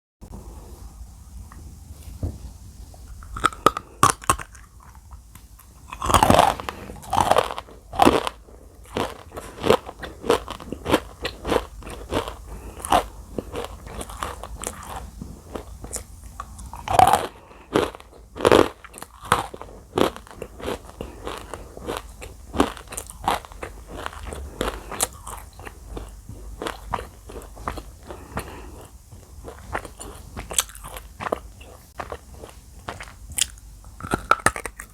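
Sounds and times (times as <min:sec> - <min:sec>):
crunchy biting and chewing: 0:03.1 - 0:34.9.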